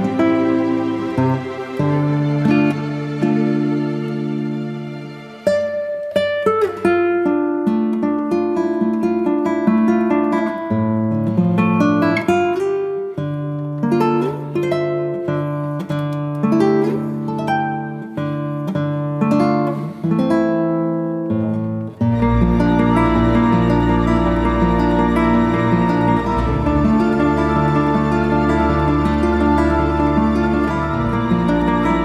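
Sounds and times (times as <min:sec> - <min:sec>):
plucked acoustic guitar: 0:00.0 - 0:32.0.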